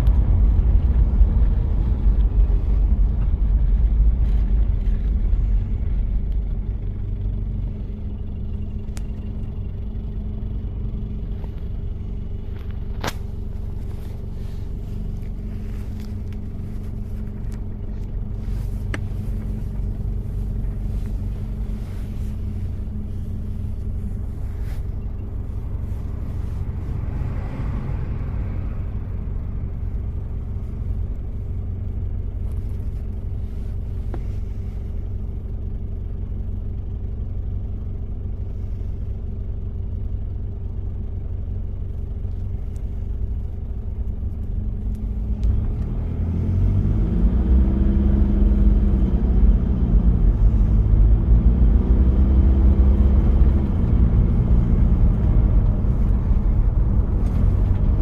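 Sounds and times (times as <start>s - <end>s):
diesel engine accelerating: 0.0s - 58.0s.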